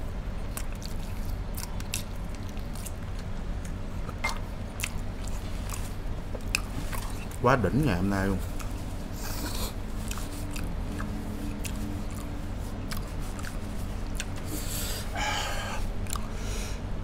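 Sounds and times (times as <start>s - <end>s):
steady low hum: 0.0s - 17.0s
person chewing: 0.5s - 7.4s, 8.4s - 16.4s.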